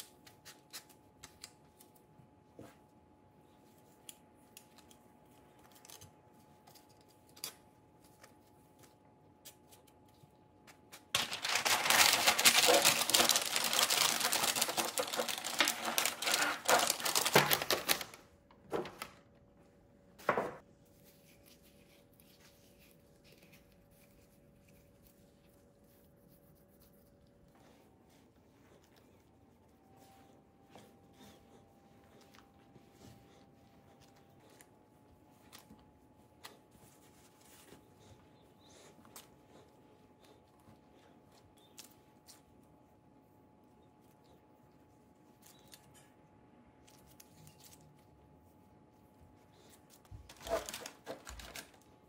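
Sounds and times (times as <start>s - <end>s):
parchment paper crinkling: 3.6s - 19.2s, 20.8s - 46.0s, 46.8s - 52.0s.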